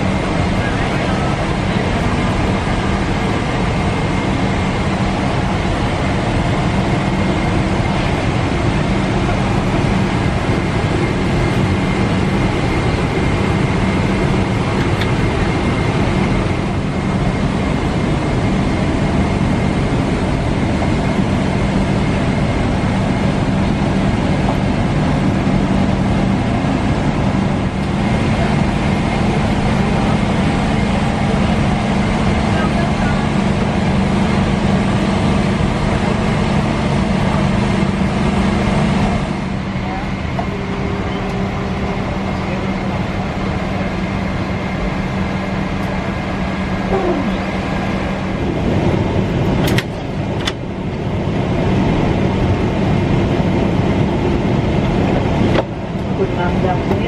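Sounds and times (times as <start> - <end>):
airliner cabin hum: 0.0 - 57.0.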